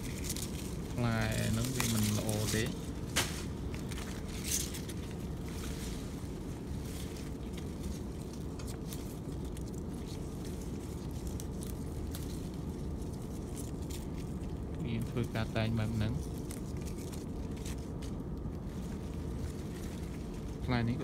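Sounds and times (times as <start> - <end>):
plant leaves rustling and crackling: 0.0 - 21.0
steady low rumble: 0.0 - 21.0.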